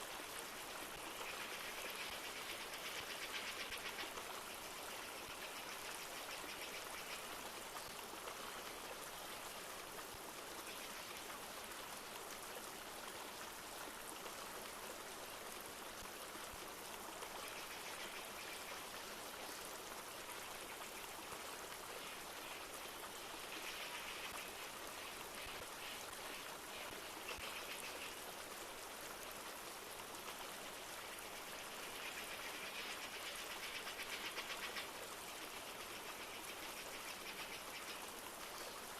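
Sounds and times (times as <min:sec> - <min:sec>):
light rain falling: 0:00.0 - 0:38.9
river flowing: 0:00.0 - 0:38.9.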